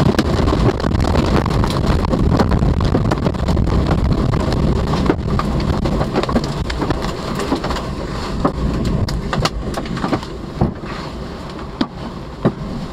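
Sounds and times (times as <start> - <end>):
rain buffeting vehicle: 0.0 - 12.9
wind rumbling against vehicle: 0.0 - 12.9.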